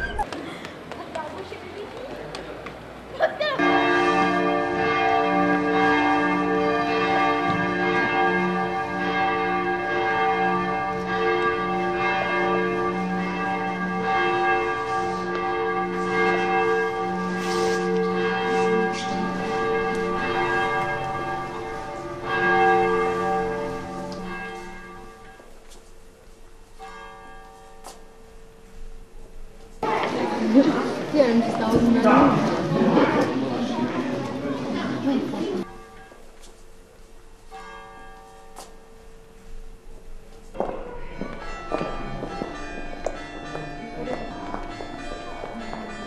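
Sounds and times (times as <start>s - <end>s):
church bells ringing: 3.6s - 36.4s, 37.3s - 46.0s.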